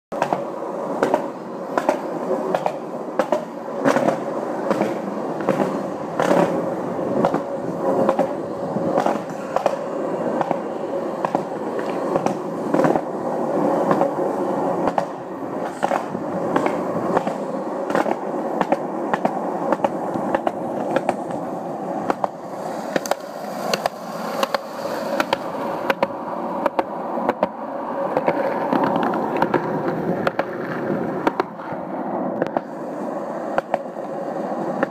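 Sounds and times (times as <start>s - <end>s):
skateboard wheels rolling on concrete: 0.1s - 34.9s
wheels clacking over seams: 0.1s - 34.9s.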